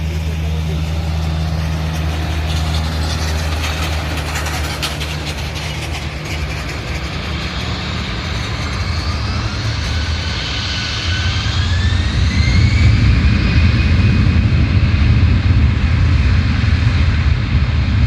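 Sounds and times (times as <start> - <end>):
jet engine rumble: 0.0 - 18.0
turbine whine: 0.0 - 18.0.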